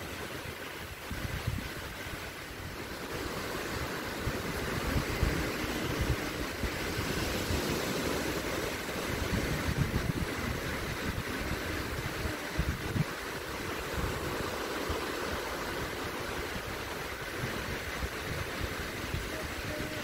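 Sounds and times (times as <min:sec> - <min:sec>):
small waves washing on shore: 0:00.0 - 0:20.0
wind gusting on microphone: 0:00.0 - 0:20.0.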